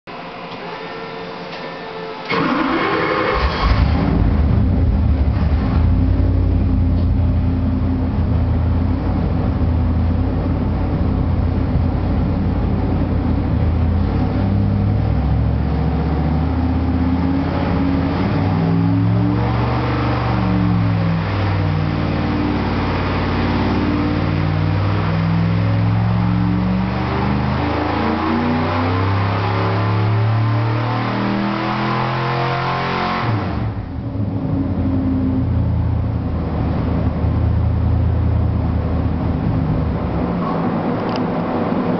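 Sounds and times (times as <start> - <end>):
car engine running under load: 2.2 - 41.9.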